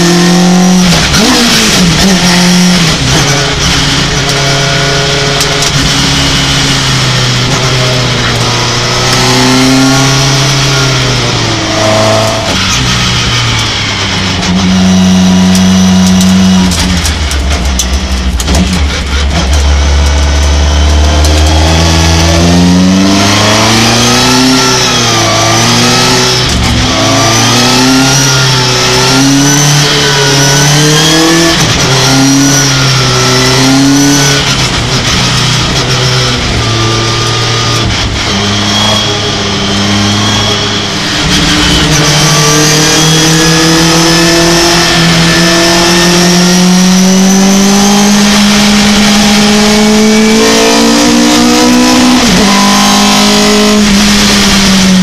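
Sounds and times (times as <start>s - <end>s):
racing truck engine revving: 0.0s - 55.0s.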